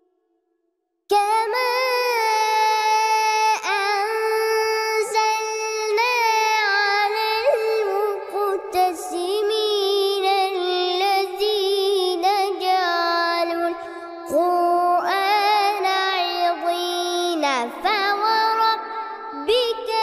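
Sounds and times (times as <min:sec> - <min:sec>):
boy chanting melodically: 0:01.1 - 0:20.0.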